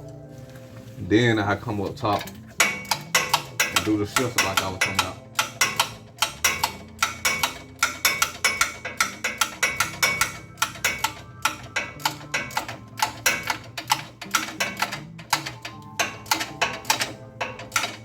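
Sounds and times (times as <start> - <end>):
percussive beat of sharp clicks: 2.6 - 18.0.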